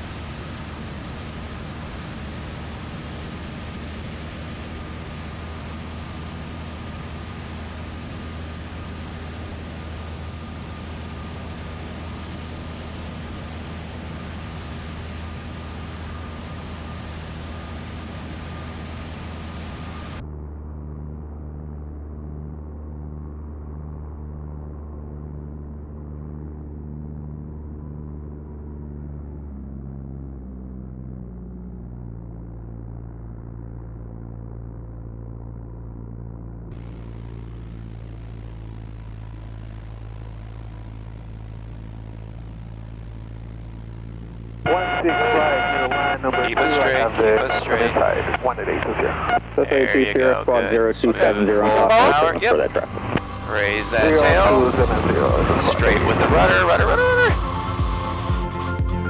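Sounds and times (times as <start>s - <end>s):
airplane engine and propeller drone: 0.0s - 59.0s.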